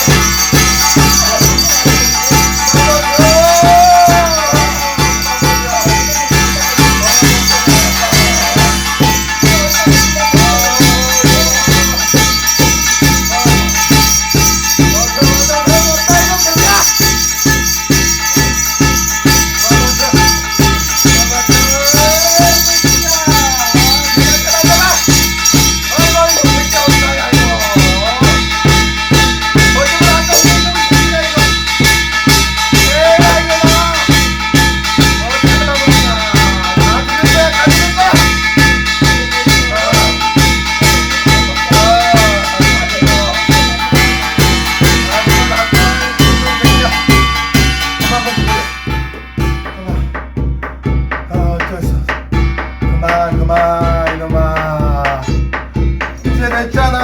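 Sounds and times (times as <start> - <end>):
fast steady drum beat: 0.0 - 57.0
shaken rattling percussion: 0.0 - 57.0
wavering melody line: 0.0 - 57.0.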